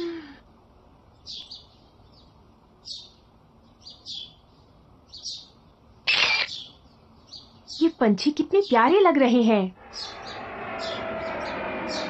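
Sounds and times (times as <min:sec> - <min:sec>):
small songbirds chirping: 0:01.0 - 0:09.1, 0:09.8 - 0:12.0.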